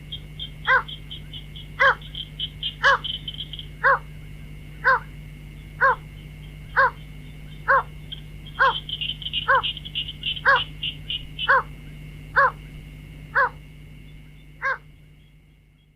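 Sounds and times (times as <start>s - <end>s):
high twittering chatter: 0.0s - 15.6s
high-pitched hum: 0.0s - 15.9s
bird honking call: 0.1s - 4.1s, 4.8s - 15.3s.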